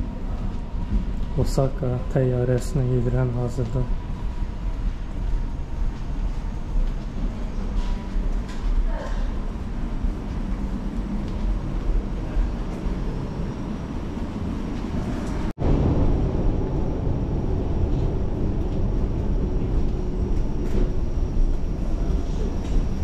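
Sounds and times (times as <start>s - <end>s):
airliner low rumble: 0.0s - 23.0s.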